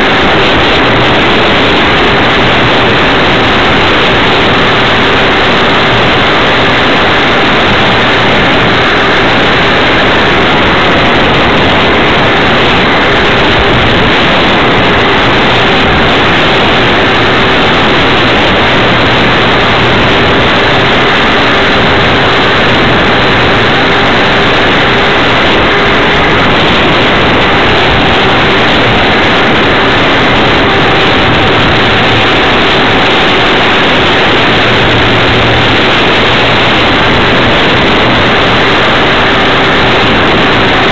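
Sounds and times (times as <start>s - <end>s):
airflow rushing: 0.0s - 40.9s
faint steady hum: 0.0s - 40.9s
model plane motor and propeller: 0.0s - 40.9s.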